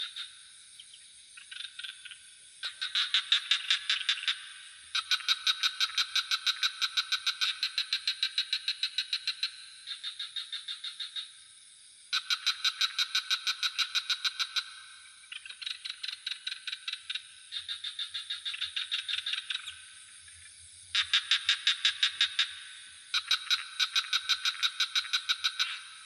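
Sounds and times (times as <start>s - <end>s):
frogs calling in rattling trills: 0.0s - 26.0s
high insect drone: 0.0s - 26.0s.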